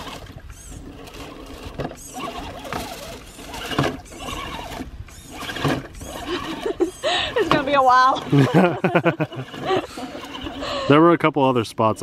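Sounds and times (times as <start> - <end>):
electric motor whining: 0.0 - 10.9.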